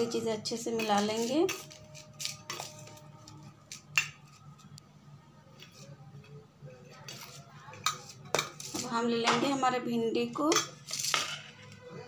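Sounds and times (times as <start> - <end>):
spoon stirring in metal bowl: 0.0 - 4.8, 5.5 - 12.0.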